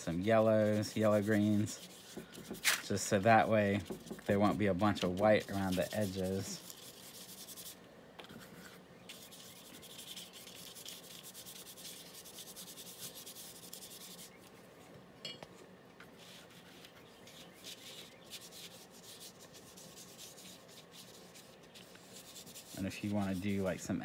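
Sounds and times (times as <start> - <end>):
paintbrush scrubbing on paper: 0.0 - 14.5, 16.1 - 24.0.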